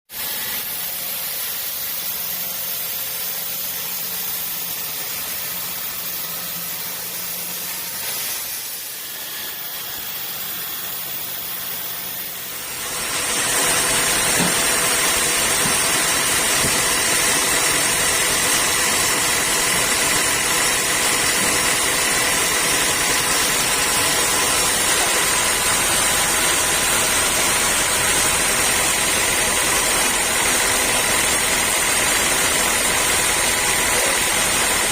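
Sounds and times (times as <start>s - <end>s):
sawmill machinery running: 0.1s - 34.9s.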